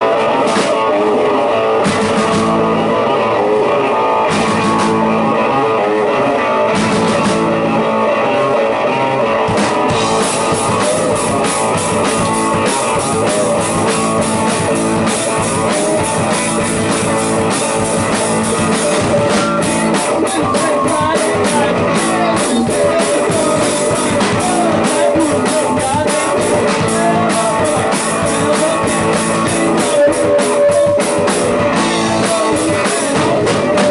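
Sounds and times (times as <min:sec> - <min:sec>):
drum kit beat: 0:00.0 - 0:01.1, 0:01.8 - 0:05.5, 0:06.7 - 0:07.8, 0:09.4 - 0:33.9
rock guitar: 0:00.0 - 0:33.9.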